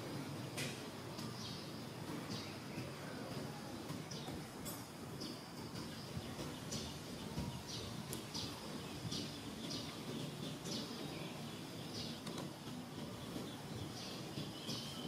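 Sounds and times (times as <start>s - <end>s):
low background noise: 0.0s - 15.0s
bird chirping: 1.2s - 15.0s.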